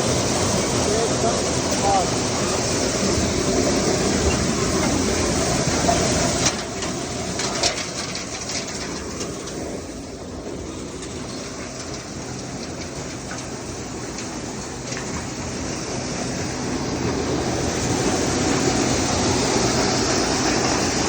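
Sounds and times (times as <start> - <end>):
thresher rattling and clattering: 0.0 - 21.0.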